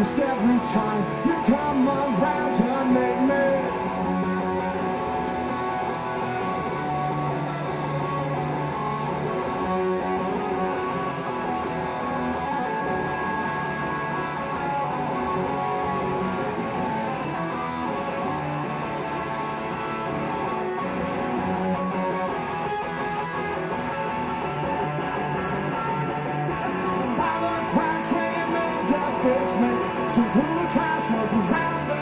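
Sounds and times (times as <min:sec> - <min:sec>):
electric guitar playing: 0:00.0 - 0:32.0.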